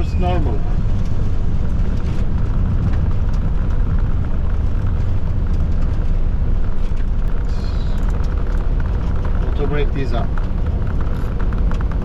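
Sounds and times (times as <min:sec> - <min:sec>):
wheels rolling on runway: 0:00.0 - 0:12.0.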